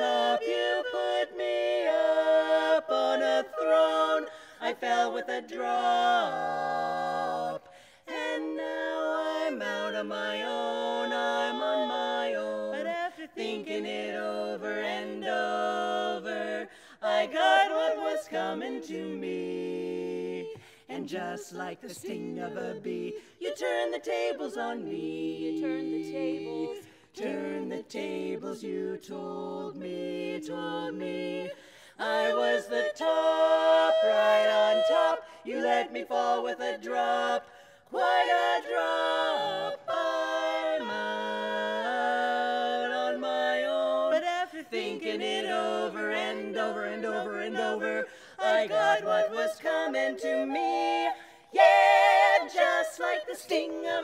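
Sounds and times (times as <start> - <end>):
women singing a cappella harmony: 0.0 - 54.0.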